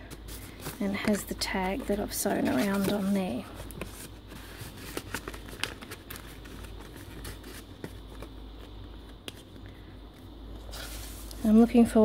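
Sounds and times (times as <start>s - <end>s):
paper pages rustling: 0.0s - 11.7s.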